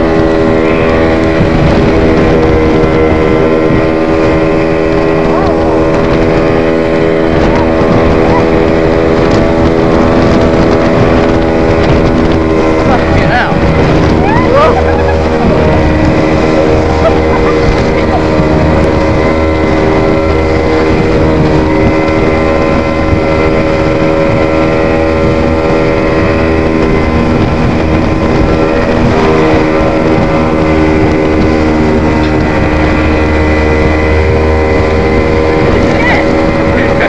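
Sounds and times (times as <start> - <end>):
speedboat engine running: 0.0 - 37.0
wind noise on microphone: 0.0 - 37.0.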